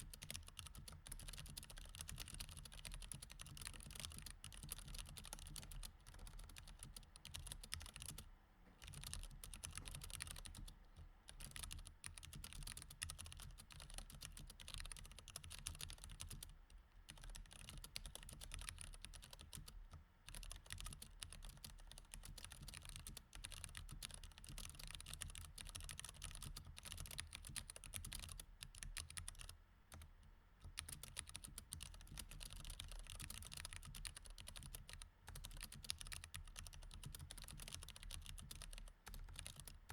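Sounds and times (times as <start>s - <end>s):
mechanical keyboard typing: 0.0s - 8.2s, 8.8s - 39.9s.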